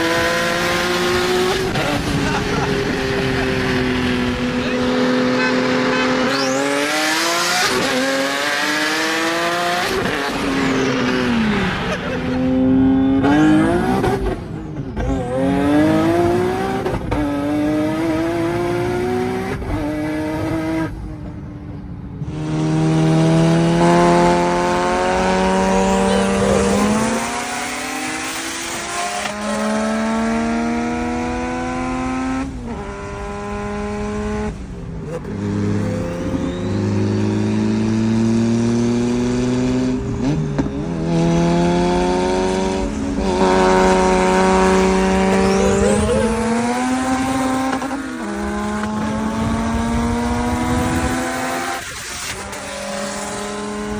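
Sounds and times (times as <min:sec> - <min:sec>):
car engine accelerating hard: 0:00.0 - 0:21.0, 0:22.2 - 0:53.9.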